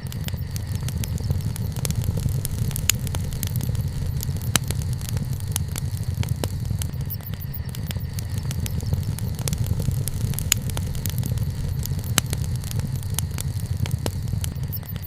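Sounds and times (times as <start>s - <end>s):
campfire crackling and popping: 0.0s - 15.0s
low rumble of burning fire: 0.0s - 15.0s.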